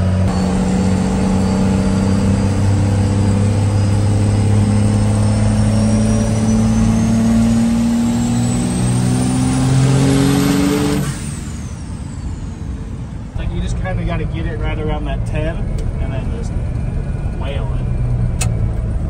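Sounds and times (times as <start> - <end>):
diesel engine accelerating: 0.0 - 19.0.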